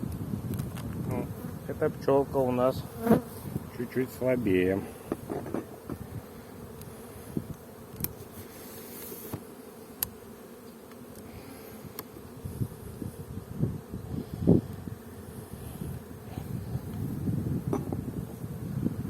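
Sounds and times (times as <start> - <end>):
bees buzzing: 1.2 - 19.0.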